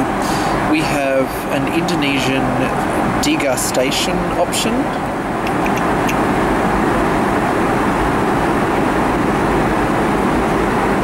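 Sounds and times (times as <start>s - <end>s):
airplane cabin airflow and engine rumble: 0.0s - 11.0s.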